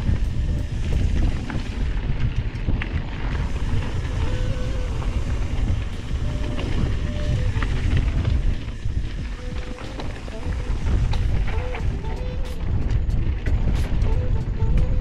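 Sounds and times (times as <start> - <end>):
bike clicks and rattles: 0.0 - 15.0
wind buffeting the microphone: 0.0 - 15.0.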